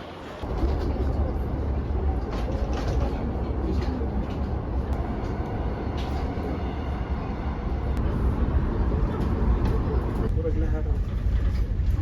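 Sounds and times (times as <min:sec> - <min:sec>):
vehicle rumble in motion: 0:00.4 - 0:12.0.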